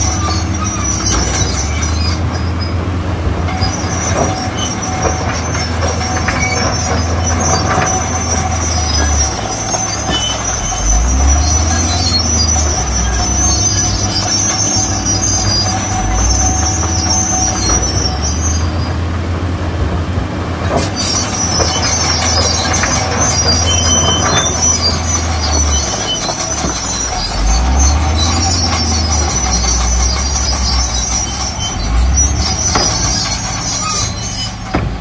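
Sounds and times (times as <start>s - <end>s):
high-pitched metallic squealing: 0.0s - 2.8s, 3.4s - 19.2s, 20.6s - 35.0s
diesel engine running: 0.0s - 35.0s.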